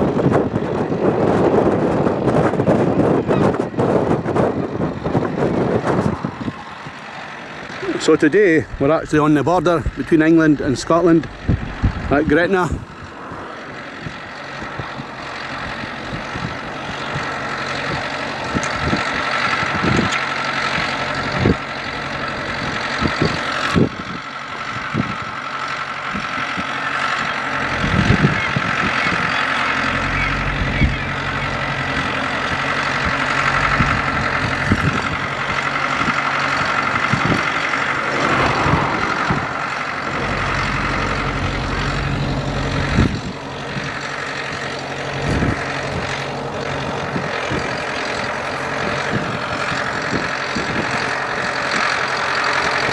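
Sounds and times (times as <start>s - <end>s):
tractor diesel engine running: 0.0s - 52.9s
wind buffeting microphone: 0.0s - 52.9s.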